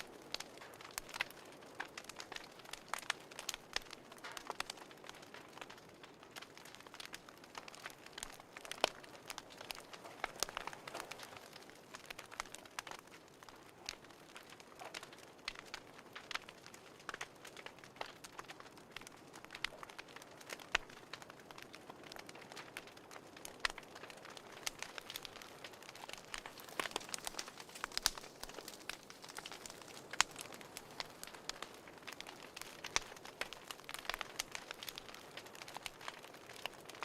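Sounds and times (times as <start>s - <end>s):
soft steady hiss: 0.0s - 37.0s
wood fire crackling: 0.0s - 37.0s.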